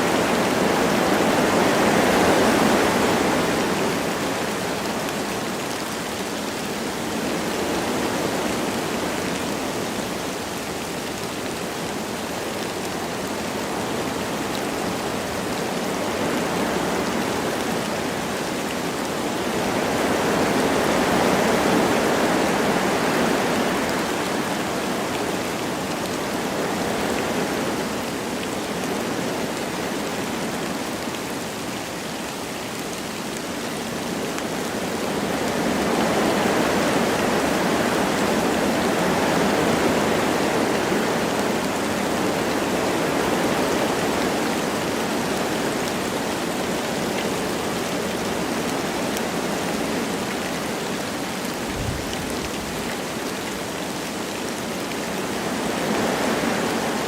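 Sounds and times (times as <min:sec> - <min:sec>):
light rain falling: 0:00.0 - 0:57.0
wind blowing through trees: 0:00.0 - 0:57.0.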